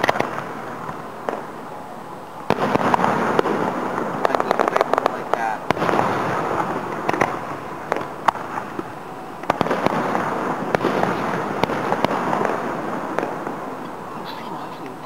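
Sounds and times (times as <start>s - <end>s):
background noise: 0.0s - 15.0s
distant fireworks bangs and crackles: 0.0s - 15.0s.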